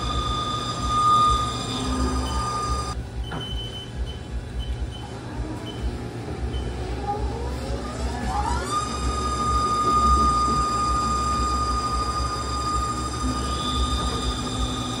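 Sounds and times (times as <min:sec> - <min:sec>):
lathe spindle whine: 0:00.0 - 0:04.2, 0:04.8 - 0:15.0
low machine rumble: 0:00.0 - 0:15.0.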